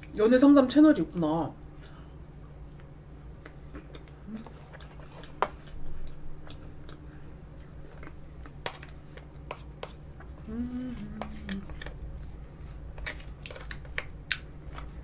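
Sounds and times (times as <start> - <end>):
chewing soft dessert: 1.6 - 15.0.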